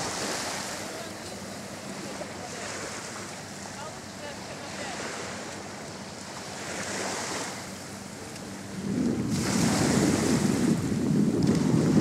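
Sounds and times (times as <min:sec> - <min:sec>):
sea waves washing onto beach: 0:00.0 - 0:12.0
wind buffeting microphone: 0:00.0 - 0:12.0.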